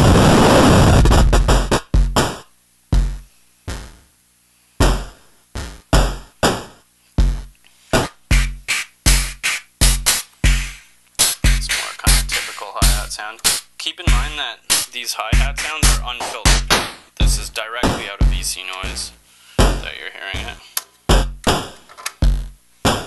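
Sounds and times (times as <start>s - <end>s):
analog bass drum thumping: 0.0s - 4.1s, 4.8s - 23.0s
noise hi-hats: 0.0s - 23.0s.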